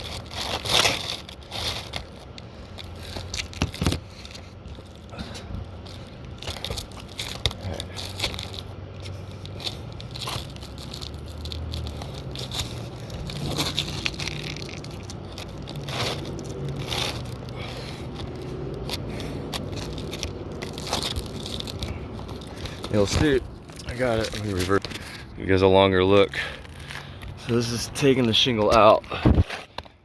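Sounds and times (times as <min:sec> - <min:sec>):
roof shingles scraping and tearing: 0:00.0 - 0:29.8.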